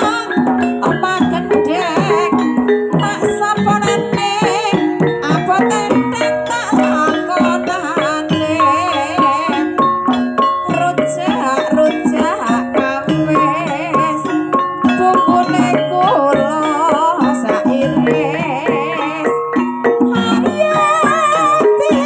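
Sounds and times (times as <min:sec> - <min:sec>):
woman singing with vibrato: 0:00.0 - 0:09.9, 0:10.6 - 0:22.0
drum: 0:00.0 - 0:22.0
struck bronze gamelan notes: 0:00.0 - 0:22.0.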